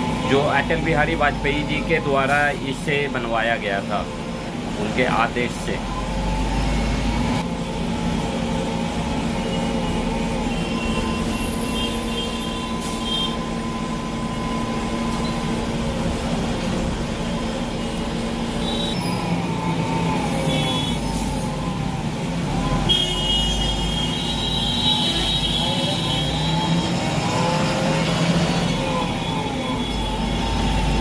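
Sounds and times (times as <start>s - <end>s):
engine hum and road noise: 0.0s - 24.2s, 25.1s - 31.0s.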